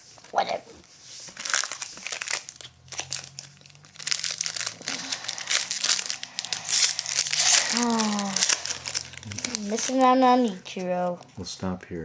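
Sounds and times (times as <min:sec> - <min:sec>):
foil wrapper crinkling: 0:01.3 - 0:11.0.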